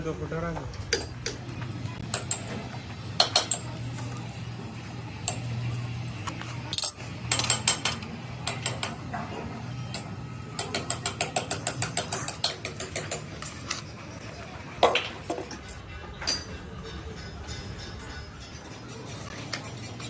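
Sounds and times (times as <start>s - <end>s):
hand tools clanking on steel: 0.6s - 4.2s, 6.3s - 20.0s.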